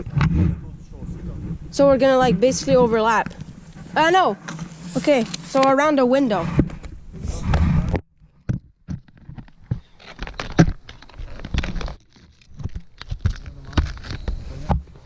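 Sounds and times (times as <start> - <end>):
rustling of handled objects: 0.0 - 15.0.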